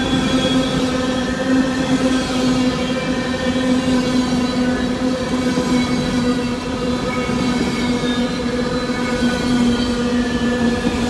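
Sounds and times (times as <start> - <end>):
freight train wheels rumbling on rails: 0.0 - 11.0.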